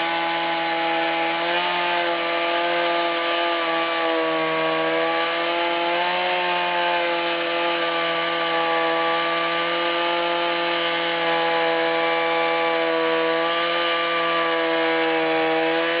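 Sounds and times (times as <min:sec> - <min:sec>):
chainsaw ripping a log: 0:00.0 - 0:16.0.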